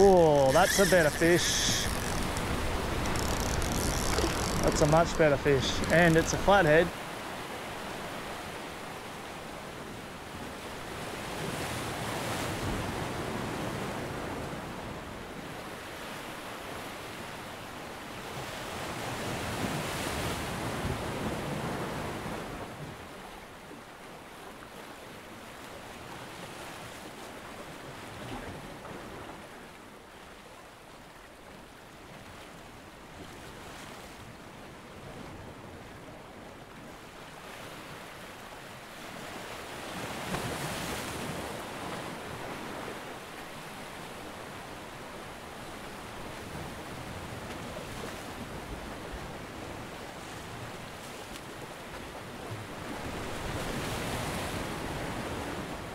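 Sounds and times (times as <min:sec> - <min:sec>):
small waves against seawall: 0:00.0 - 0:55.9.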